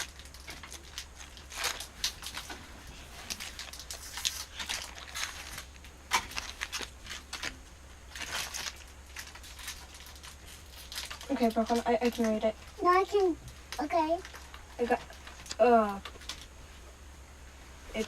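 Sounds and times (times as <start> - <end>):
foil wrapper crinkling: 0.0 - 16.5.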